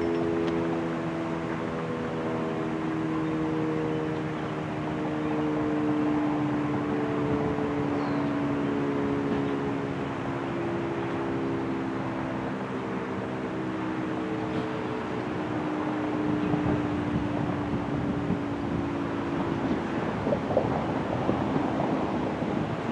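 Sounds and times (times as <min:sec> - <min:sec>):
warning siren steady tone: 0:00.0 - 0:22.9.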